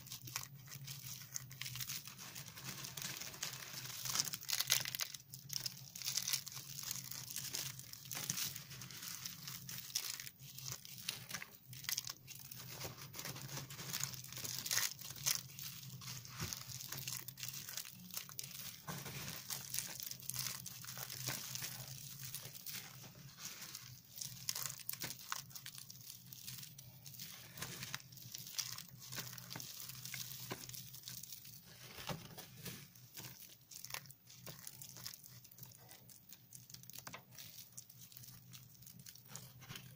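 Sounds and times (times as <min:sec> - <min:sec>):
dry soap flakes crunching: 0:00.0 - 0:39.9.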